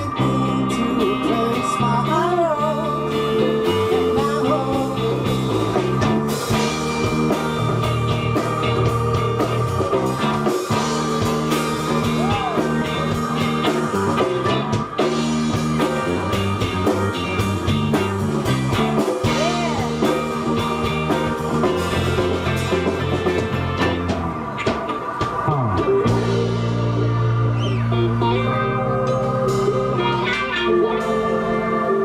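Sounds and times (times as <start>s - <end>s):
drums: 0.0s - 32.0s
lead guitar solo with bent notes: 0.0s - 32.0s
stepping bass line: 0.0s - 32.0s.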